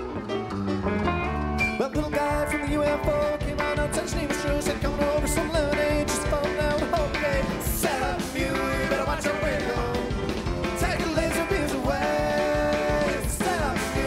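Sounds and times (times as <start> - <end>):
electric bass: 0.0 - 14.0
keyboards: 0.0 - 14.0
steady drum beat: 2.0 - 14.0.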